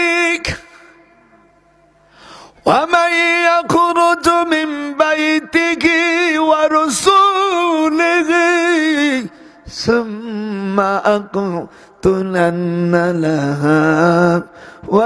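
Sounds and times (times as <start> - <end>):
man chanting over a microphone: 0.0 - 1.2, 2.6 - 15.0.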